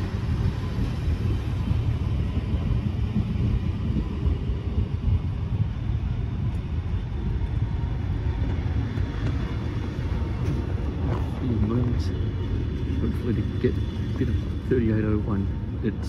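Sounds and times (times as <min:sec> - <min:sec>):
train carriages rumbling on rails: 0:00.0 - 0:16.0.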